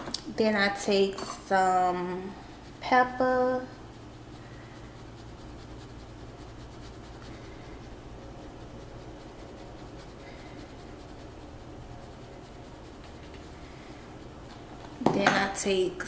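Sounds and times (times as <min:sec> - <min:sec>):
low steady hum: 0:00.0 - 0:16.0
pepper shaker rustling: 0:00.6 - 0:15.8.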